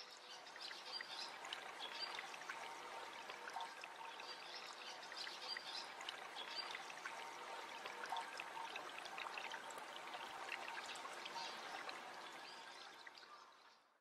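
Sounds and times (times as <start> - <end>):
water running and trickling: 0.0 - 13.8
water drips and splashes: 0.0 - 13.9.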